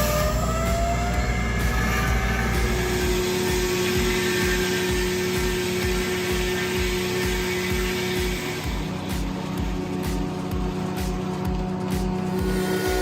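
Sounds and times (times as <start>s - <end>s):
low pulse: 0.0s - 13.0s
sawmill saw whining: 0.0s - 13.0s.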